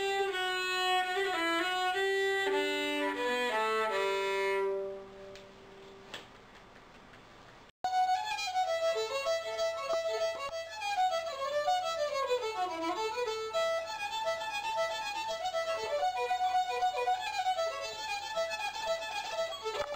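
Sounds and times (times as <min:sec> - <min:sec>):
solo fiddle playing fast tune: 0:00.0 - 0:05.1, 0:07.9 - 0:19.9.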